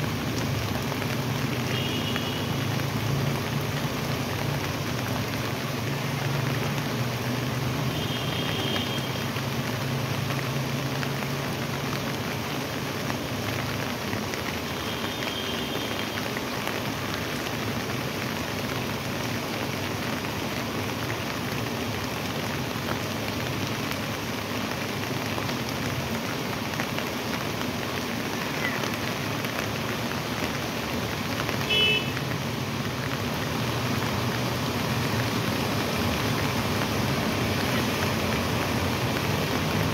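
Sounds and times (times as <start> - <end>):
floodwater rushing: 0.0 - 39.9
water pouring from culvert: 0.0 - 39.9.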